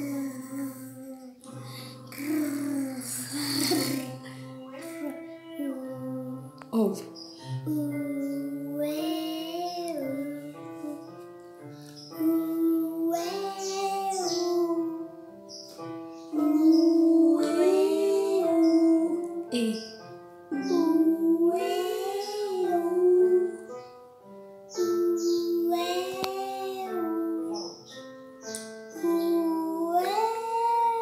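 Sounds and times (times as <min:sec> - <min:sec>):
girl singing vocal exercises: 0:00.0 - 0:15.3, 0:16.2 - 0:24.0, 0:24.7 - 0:31.0
piano accompaniment: 0:00.0 - 0:31.0.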